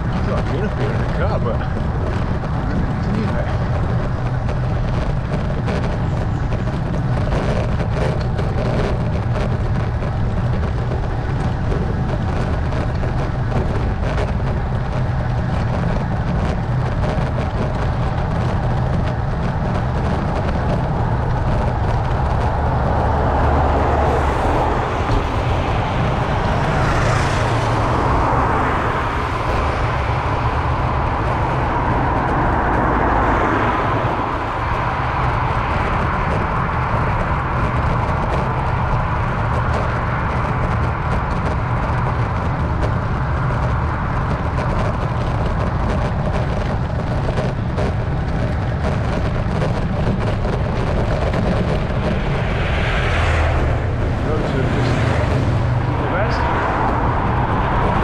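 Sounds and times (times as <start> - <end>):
motor traffic passing: 0.0 - 58.0
wind and road noise: 0.0 - 58.0.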